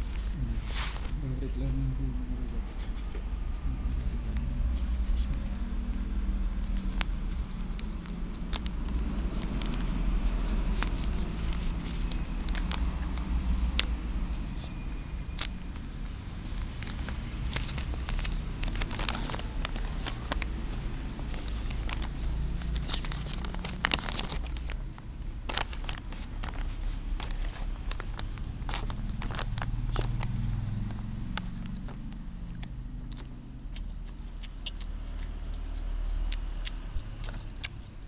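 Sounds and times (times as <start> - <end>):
low background rumble: 0.0 - 38.0
paper wrapper crinkling: 2.6 - 34.8.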